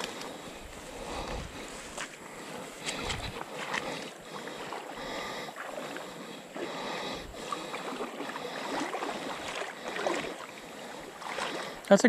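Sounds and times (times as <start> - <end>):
wading through splashing water: 0.0 - 12.0.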